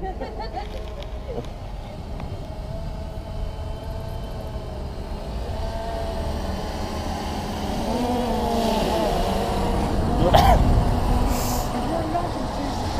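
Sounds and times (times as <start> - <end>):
drone motors whining: 0.0 - 12.9.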